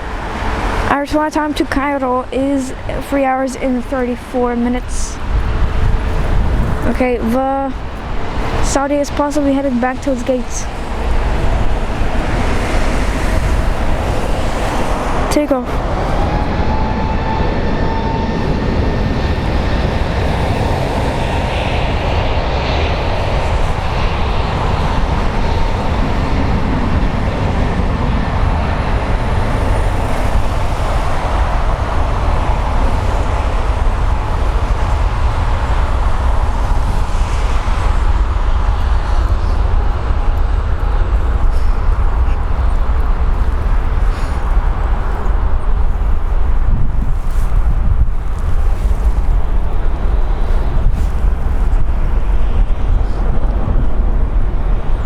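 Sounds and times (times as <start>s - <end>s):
high jet whine: 0.0s - 55.0s
jet engine rumble: 0.0s - 55.0s.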